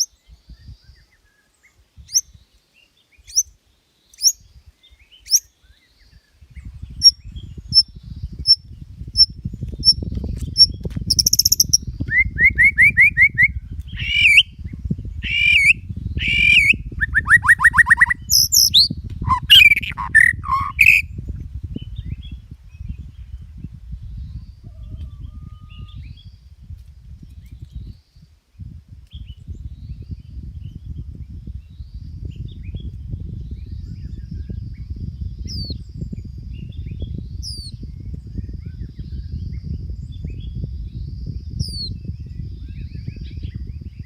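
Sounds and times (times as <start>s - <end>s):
songbird singing: 0.0s - 44.0s.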